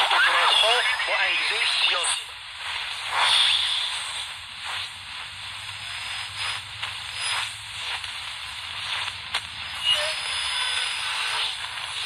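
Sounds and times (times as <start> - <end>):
faint hum: 0.0 - 12.0
shortwave radio static hiss: 0.0 - 12.0.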